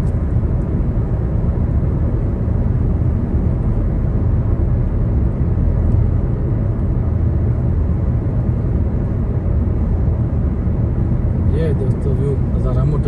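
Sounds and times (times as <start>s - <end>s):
car engine: 0.0s - 13.0s.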